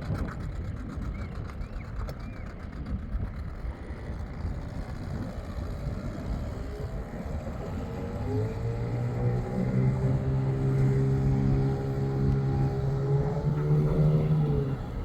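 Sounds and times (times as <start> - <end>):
boat motor rumbling: 0.0 - 15.0.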